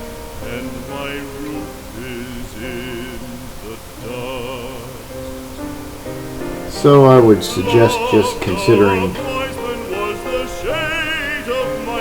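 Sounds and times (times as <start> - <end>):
slow song with singing voice: 0.0 - 12.0.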